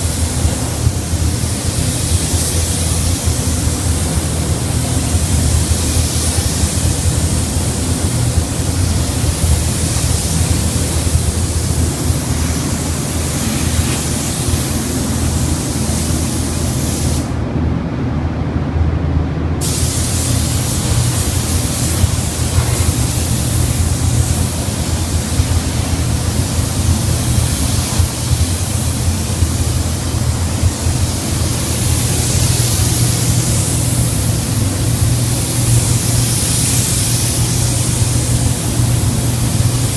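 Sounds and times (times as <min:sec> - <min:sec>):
paint spray gun hissing: 0:00.0 - 0:17.3, 0:19.6 - 0:39.9
steady low hum: 0:00.0 - 0:39.9.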